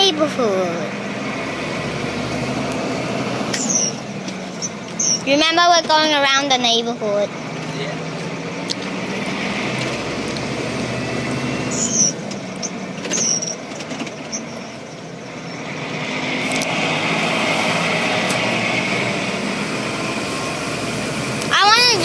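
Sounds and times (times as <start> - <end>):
truck engine hum: 0.0 - 22.0.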